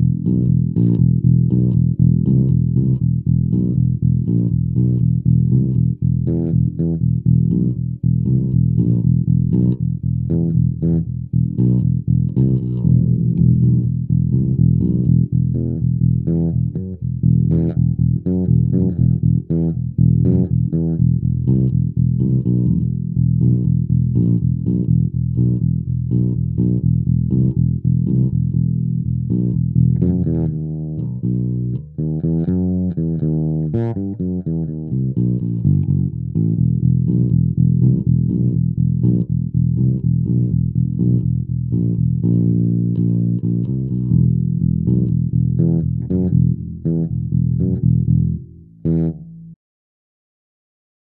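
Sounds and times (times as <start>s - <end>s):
fretless electric bass notes: 0.0s - 49.6s.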